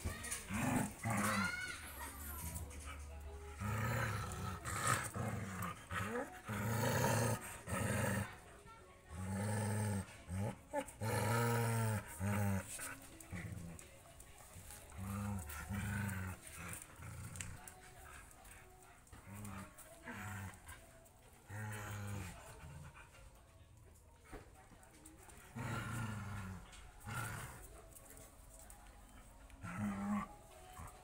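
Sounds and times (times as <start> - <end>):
dogs growling: 0.0 - 23.4, 25.0 - 31.0.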